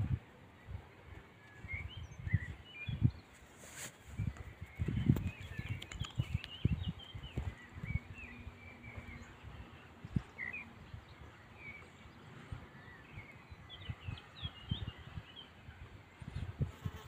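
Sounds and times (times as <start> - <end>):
faint outdoor background: 0.0 - 17.0
small birds chirping: 0.0 - 17.0.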